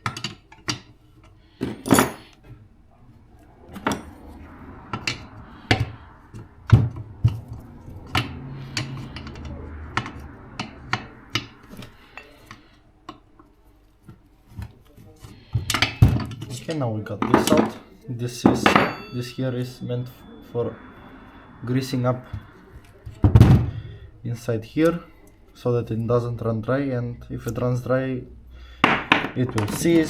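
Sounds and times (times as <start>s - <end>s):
soft metal scraping: 0.3s - 25.3s.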